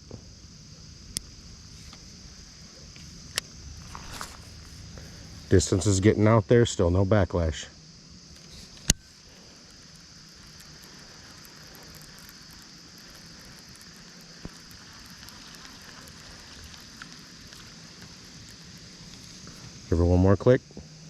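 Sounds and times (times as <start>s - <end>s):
faint crackly background: 0.0s - 21.0s
insects chirring: 0.0s - 21.0s.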